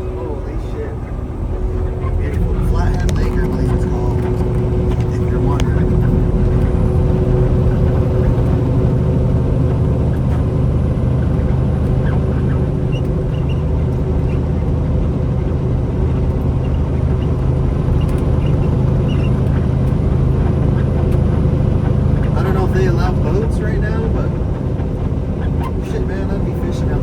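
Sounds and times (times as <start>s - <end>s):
road noise: 0.0s - 27.0s
truck diesel engine droning: 0.0s - 27.0s.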